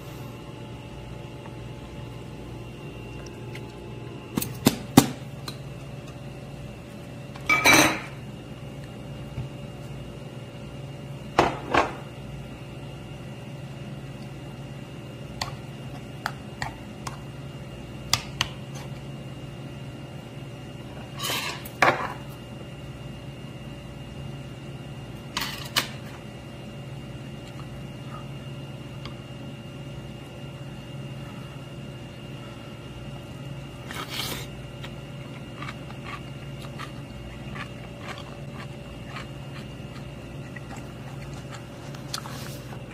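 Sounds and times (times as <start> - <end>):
steady hum: 0.0 - 42.9.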